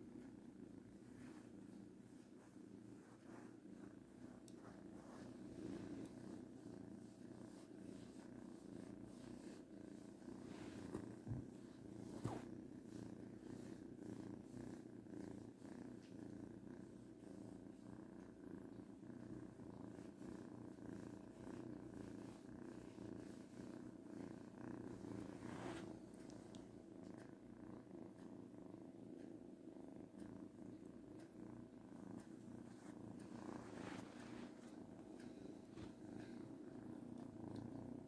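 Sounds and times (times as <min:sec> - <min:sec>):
kitten purring: 0:00.0 - 0:38.0.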